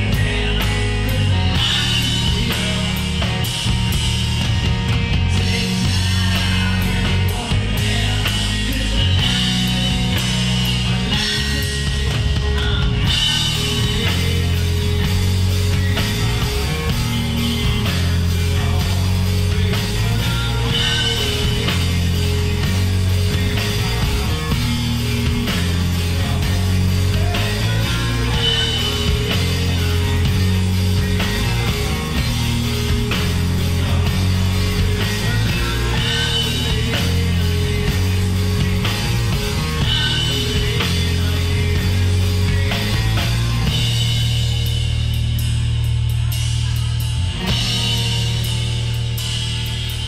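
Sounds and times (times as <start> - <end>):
bass guitar: 0.0 - 50.0
drum kit with cymbals: 0.0 - 50.0
electric guitar: 0.0 - 50.0.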